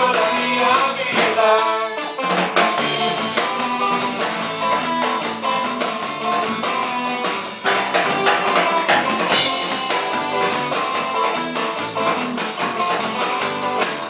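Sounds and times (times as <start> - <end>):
drum kit beat: 0.0 - 14.0
guitar: 0.0 - 14.0.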